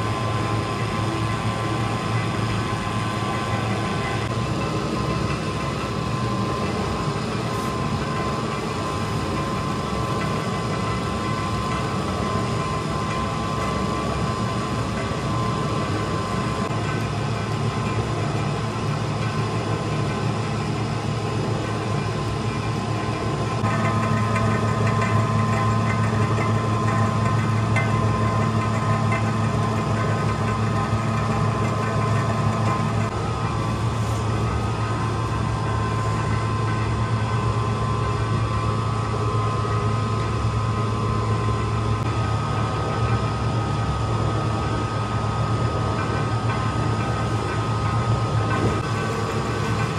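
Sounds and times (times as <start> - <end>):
dough mixer humming: 0.0 - 49.9.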